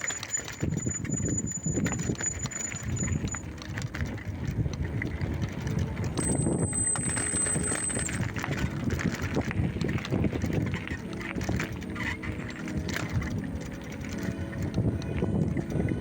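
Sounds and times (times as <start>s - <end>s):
bicycle rattling over rough track: 0.0s - 16.0s.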